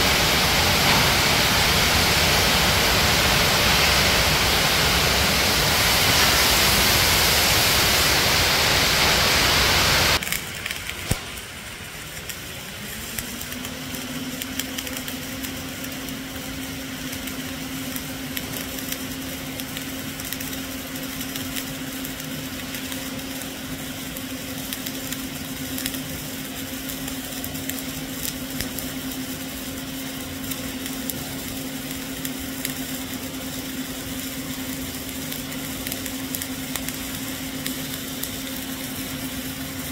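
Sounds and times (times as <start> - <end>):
loud steady hiss: 0.0 - 39.9
steady hum: 0.0 - 39.9
welding arc crackling: 0.0 - 39.9.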